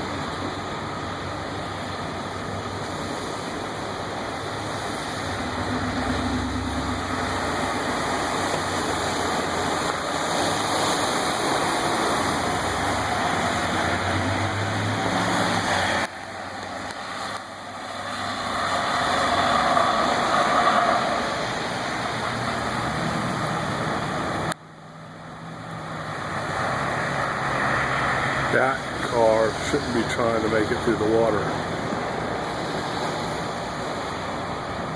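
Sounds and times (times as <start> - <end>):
traffic and water rushing: 0.0 - 34.9.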